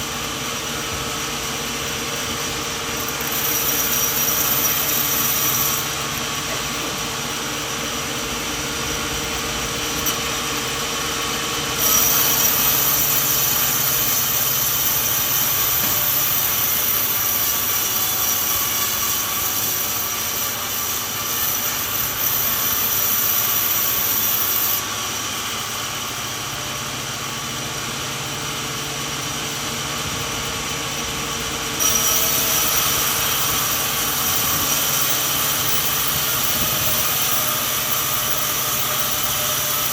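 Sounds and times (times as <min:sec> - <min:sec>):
saw blade cutting log: 0:00.0 - 0:39.9
sawmill machine running: 0:00.0 - 0:39.9.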